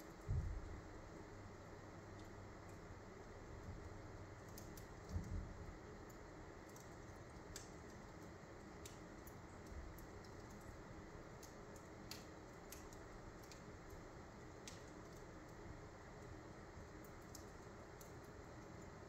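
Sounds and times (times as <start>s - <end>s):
fire crackling: 0.0s - 19.0s
steady fire hiss: 0.0s - 19.0s.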